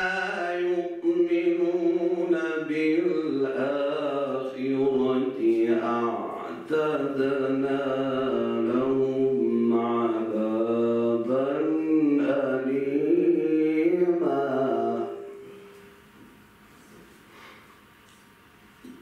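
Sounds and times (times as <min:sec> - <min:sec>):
man reciting melodically: 0:00.0 - 0:15.3.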